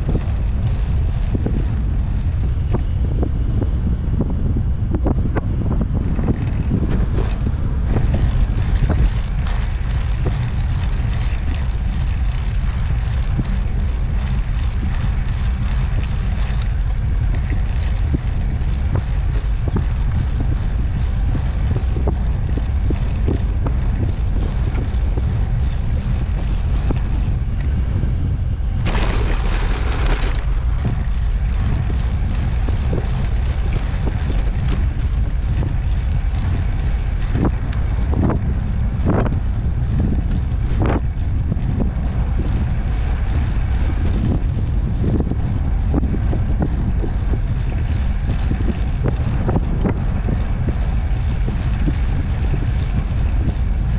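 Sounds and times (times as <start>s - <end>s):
tyres rolling on pavement: 0.0s - 4.6s, 5.6s - 53.9s
wind rumble on microphone: 0.0s - 53.9s.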